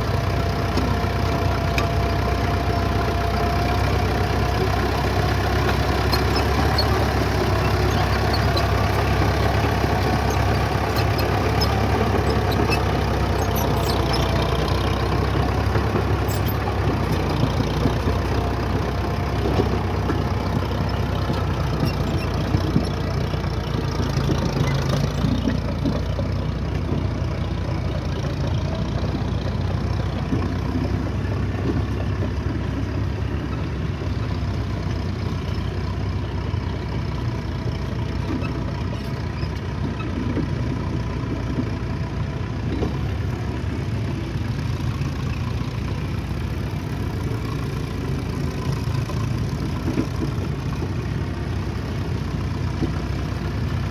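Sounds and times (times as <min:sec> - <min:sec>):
heavy machinery engine rumbling: 0:00.0 - 0:53.9.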